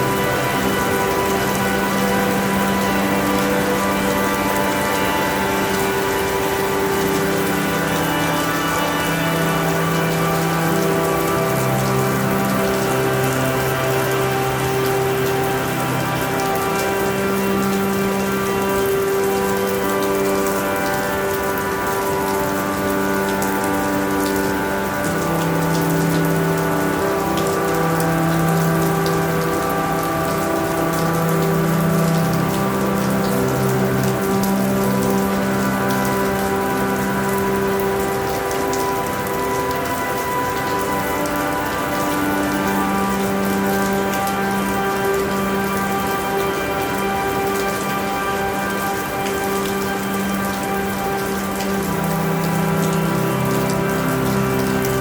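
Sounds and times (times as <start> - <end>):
soft sustained musical tones: 0.0 - 55.0
steady rain falling: 0.0 - 55.0.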